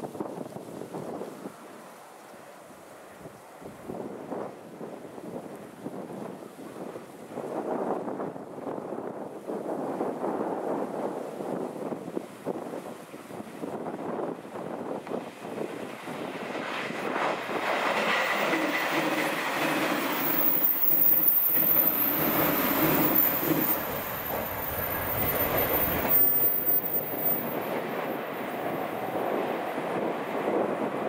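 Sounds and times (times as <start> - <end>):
train passing at speed: 1.4 - 31.0.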